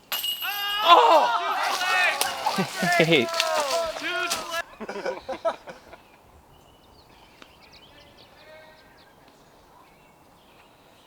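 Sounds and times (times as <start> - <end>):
birds chirping faintly: 1.4 - 11.0.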